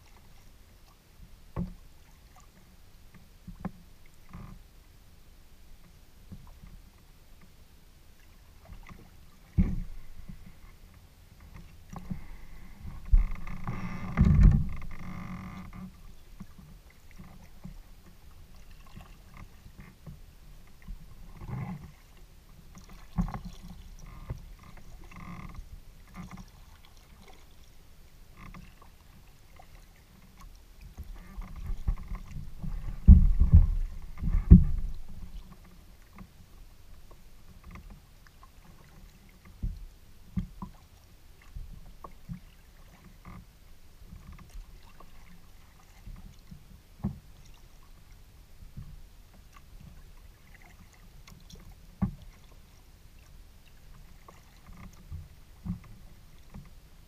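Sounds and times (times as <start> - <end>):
paddle strokes in water: 0.0 - 57.0.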